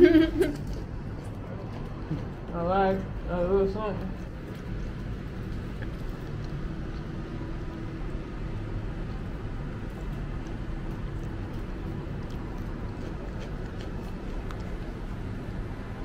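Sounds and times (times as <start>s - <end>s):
distant city traffic rumble: 0.0s - 16.0s
faint steady hum: 0.0s - 16.0s.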